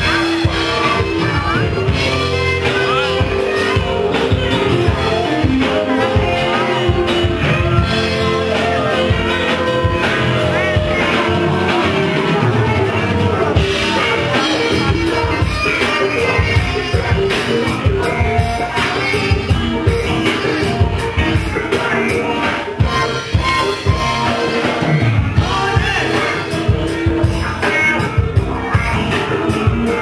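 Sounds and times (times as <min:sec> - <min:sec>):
drums: 0:00.0 - 0:30.0
electric guitar: 0:00.0 - 0:30.0
saxophone: 0:00.0 - 0:30.0.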